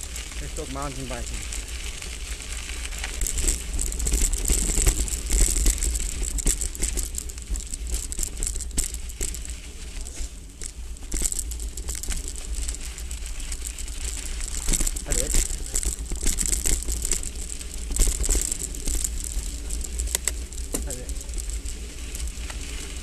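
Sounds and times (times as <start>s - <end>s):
low rumble of bike on dirt: 0.0s - 23.0s.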